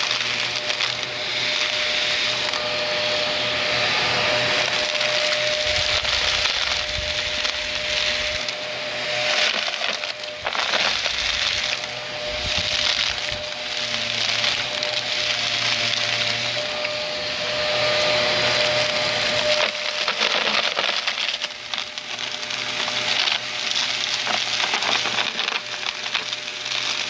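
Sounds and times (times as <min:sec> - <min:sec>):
debris crackling in vacuum: 0:00.0 - 0:27.0
vacuum cleaner motor whine: 0:00.0 - 0:27.0.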